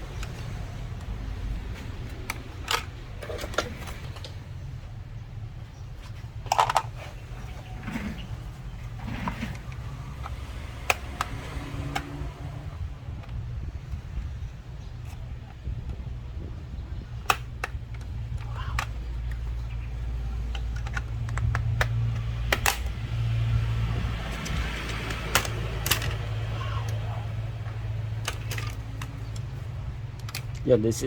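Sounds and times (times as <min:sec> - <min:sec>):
clicks of tools and plastic parts: 0:00.0 - 0:04.4, 0:06.0 - 0:08.2, 0:08.8 - 0:16.1, 0:17.0 - 0:23.3, 0:23.9 - 0:30.8
steady low hum: 0:00.0 - 0:31.0.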